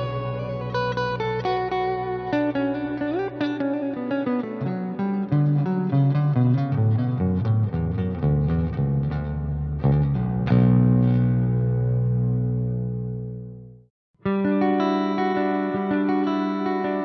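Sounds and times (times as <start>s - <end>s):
clean electric guitar melody: 0.0s - 17.0s.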